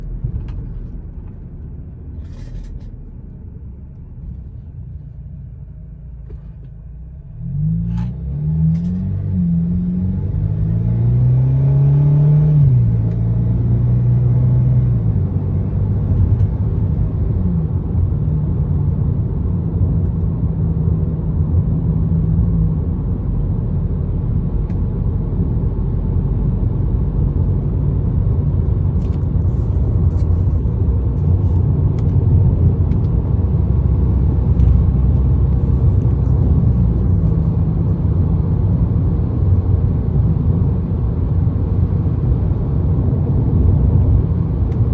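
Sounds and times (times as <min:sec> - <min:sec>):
road noise: 0:00.0 - 0:44.9.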